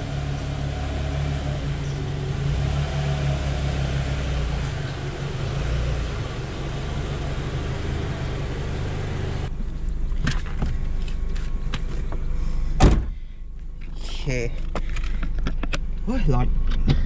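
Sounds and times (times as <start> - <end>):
car engine and road noise: 0.0 - 17.0
low engine hum: 0.0 - 17.0.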